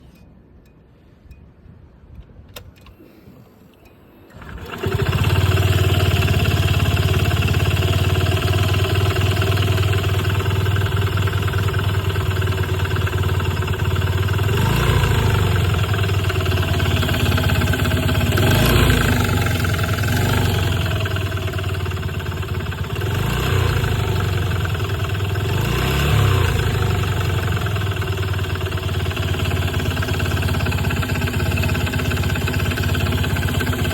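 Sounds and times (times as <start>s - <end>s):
engine knocking and rattling: 4.3s - 33.9s
scooter engine idling: 4.3s - 33.9s.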